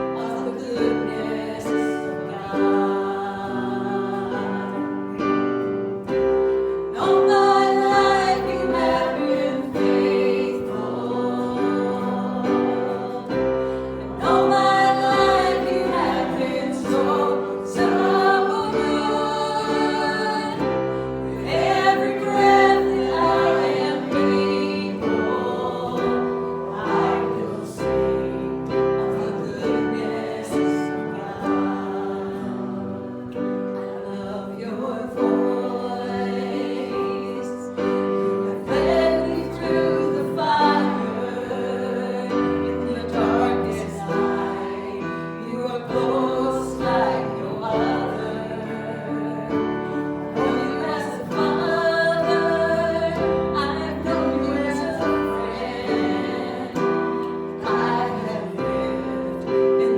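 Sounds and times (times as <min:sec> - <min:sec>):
choir singing worship song: 0:00.0 - 0:59.9
keyboard chords: 0:00.0 - 0:59.9.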